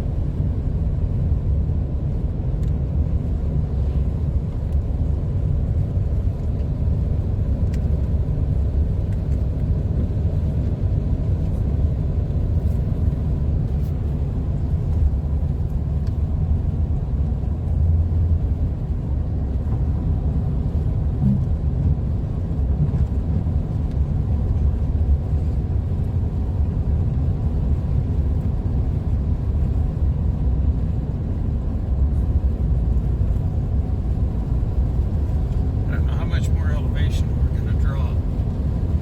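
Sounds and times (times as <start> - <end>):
car driving on slushy road: 0.0 - 39.0.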